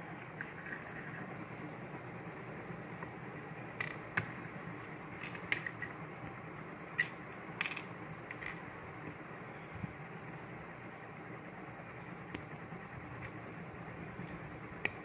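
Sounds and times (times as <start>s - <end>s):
faint steady background hum: 0.0s - 15.0s.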